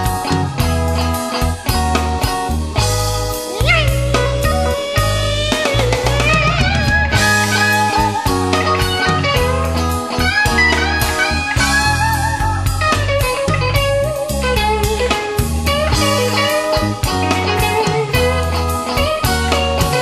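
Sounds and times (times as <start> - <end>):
blues guitar lead over beat: 0.0 - 20.0.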